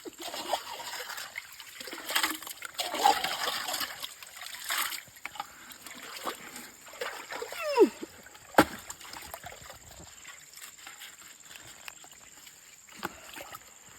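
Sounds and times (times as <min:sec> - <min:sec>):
water splashing and sloshing: 0:00.0 - 0:13.9.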